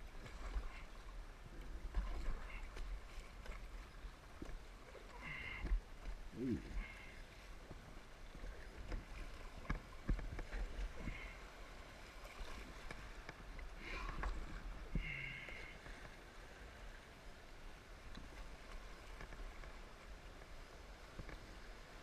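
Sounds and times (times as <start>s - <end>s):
paddle strokes splashing: 0.0s - 22.0s.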